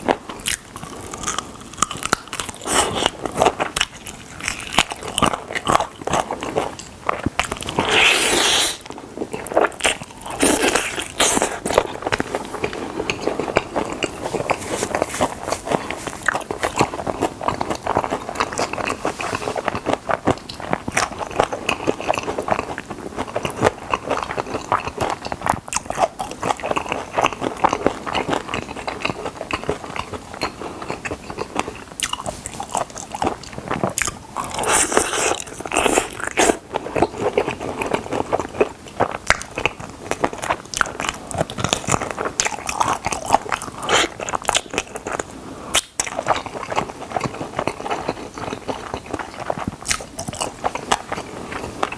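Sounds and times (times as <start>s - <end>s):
crispy chicken chewing crunches: 0.0s - 51.9s.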